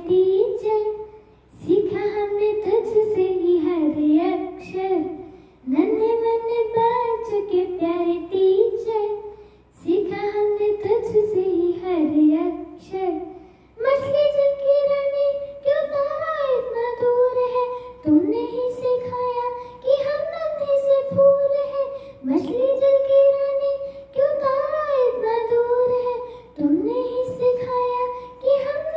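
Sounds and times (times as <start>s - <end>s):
girl singing into a microphone: 0.0s - 28.9s.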